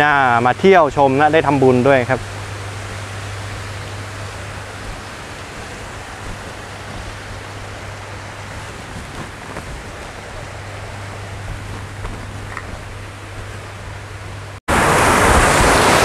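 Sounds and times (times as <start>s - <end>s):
waterfall rushing: 1.4s - 16.0s
low hum: 1.7s - 14.6s.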